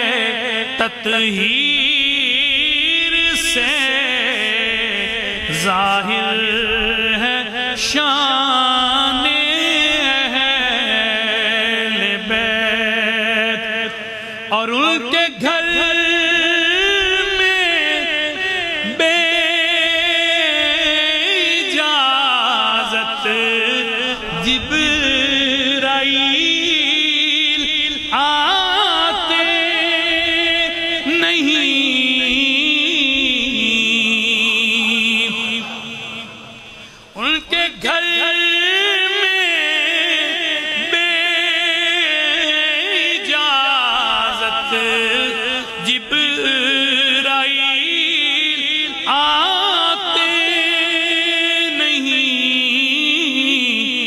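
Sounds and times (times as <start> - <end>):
man singing into a microphone: 0.0 - 54.0.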